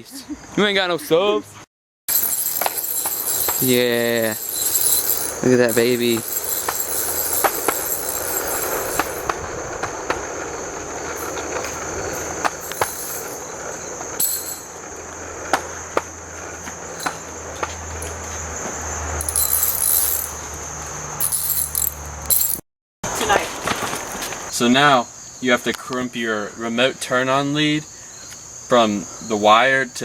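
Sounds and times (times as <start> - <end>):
crickets chirring: 2.1 - 30.0.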